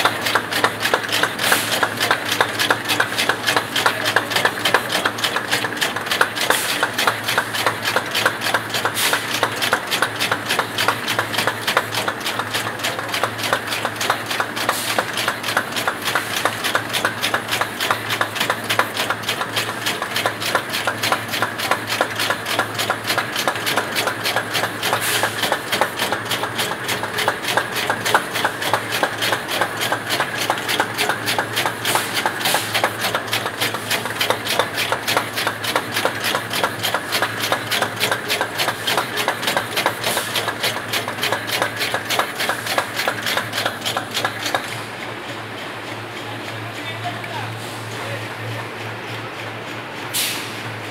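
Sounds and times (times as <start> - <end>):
machine clattering clicks: 0.0 - 45.7.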